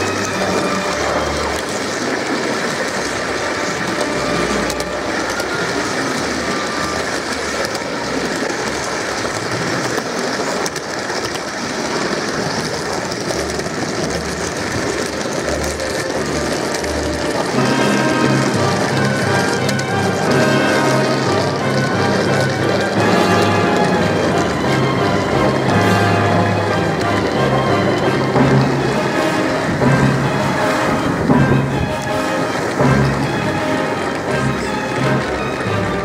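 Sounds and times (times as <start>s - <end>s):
model train wheels rolling on rails: 0.0s - 36.0s.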